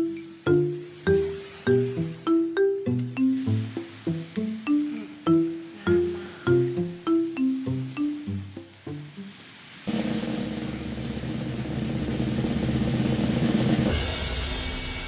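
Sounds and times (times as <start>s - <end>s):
drum roll: 0.0s - 9.1s, 9.9s - 15.0s.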